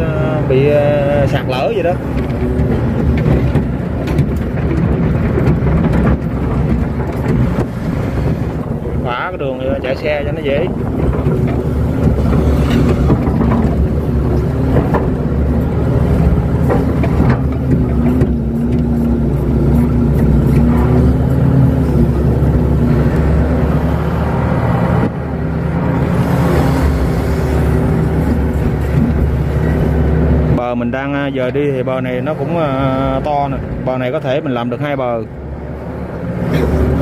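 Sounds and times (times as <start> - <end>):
excavator diesel engine under load: 0.0 - 37.0.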